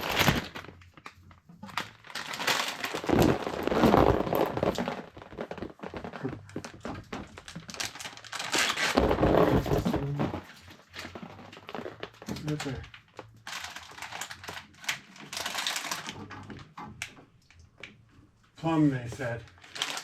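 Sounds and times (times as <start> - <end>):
crinkling and scraping handling noise: 0.0 - 20.0.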